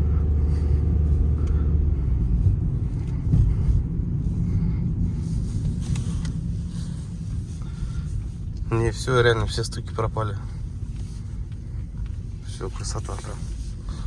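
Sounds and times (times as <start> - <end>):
car engine and tyre rumble: 0.0 - 14.0
soft bumps: 0.4 - 14.0.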